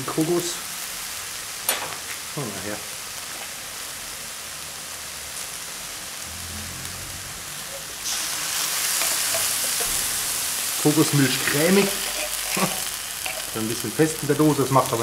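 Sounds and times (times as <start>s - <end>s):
food sizzling in a wok: 0.0s - 15.0s
coconut milk hissing in wok: 2.3s - 15.0s.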